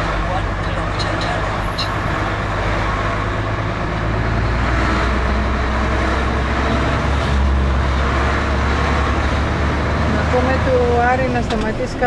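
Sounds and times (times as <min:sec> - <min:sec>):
truck engine humming: 0:00.0 - 0:12.0
tyre and road noise: 0:00.0 - 0:12.0.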